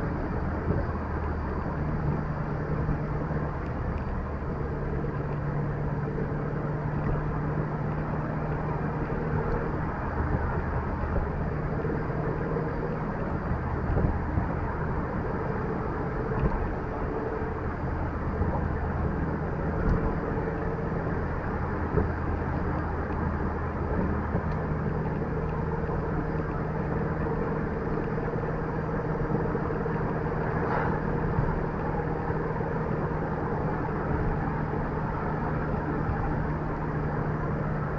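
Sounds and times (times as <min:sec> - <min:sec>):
car engine hum: 0:00.0 - 0:37.9
road and tyre noise: 0:00.0 - 0:37.9.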